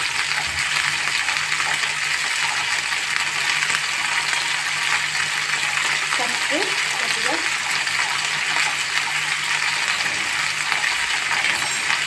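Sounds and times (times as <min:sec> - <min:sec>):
cauliflower sizzling in oil: 0:00.0 - 0:12.0.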